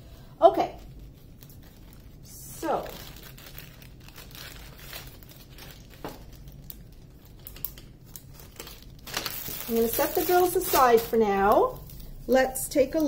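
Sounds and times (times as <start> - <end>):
plastic bags crinkling: 0.8 - 13.0.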